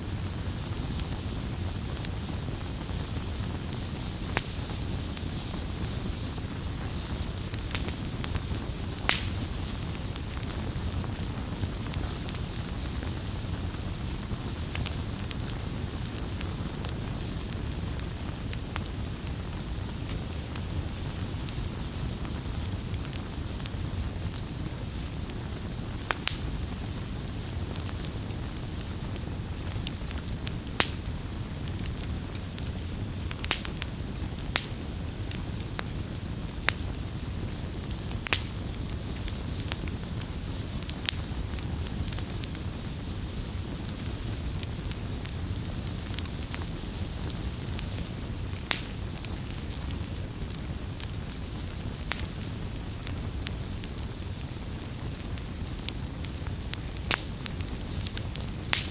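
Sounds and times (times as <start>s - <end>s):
campfire crackling: 0.0s - 58.9s
sharp pops of burning wood: 0.1s - 58.9s.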